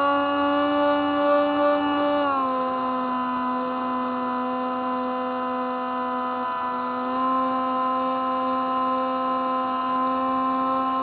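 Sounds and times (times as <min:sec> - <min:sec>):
electric motor and propeller whine: 0:00.0 - 0:11.0.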